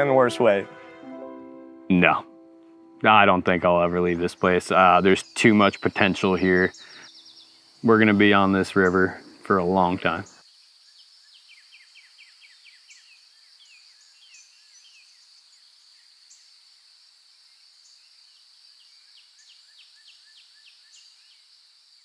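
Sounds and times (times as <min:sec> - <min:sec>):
bird chirping: 0:00.0 - 0:16.5, 0:17.5 - 0:21.6
high insect drone: 0:03.0 - 0:22.0.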